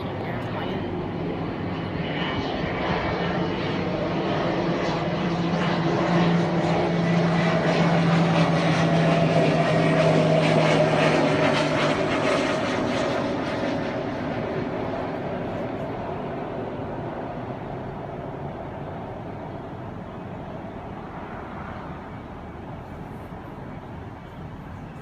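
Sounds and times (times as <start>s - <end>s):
airplane engine drone: 0.0s - 25.0s.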